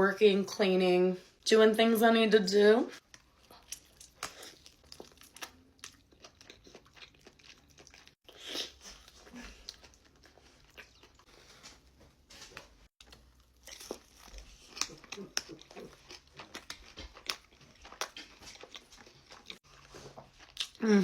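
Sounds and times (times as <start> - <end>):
crunchy chewing of fried food: 3.0 - 21.0.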